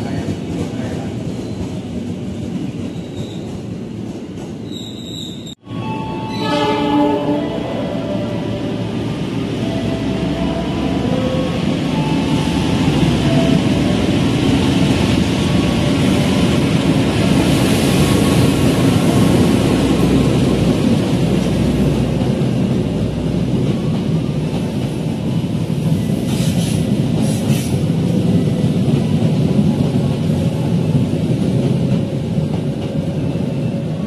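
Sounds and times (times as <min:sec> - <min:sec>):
train wheels rumbling on rails: 0:00.0 - 0:05.6, 0:07.4 - 0:34.0.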